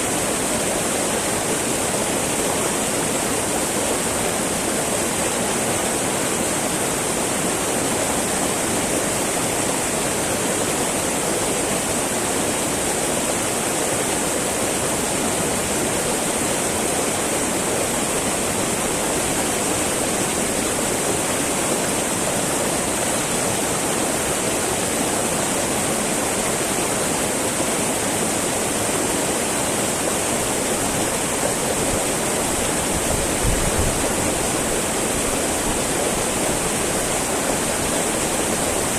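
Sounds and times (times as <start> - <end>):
river babbling over rocks: 0.0 - 38.9.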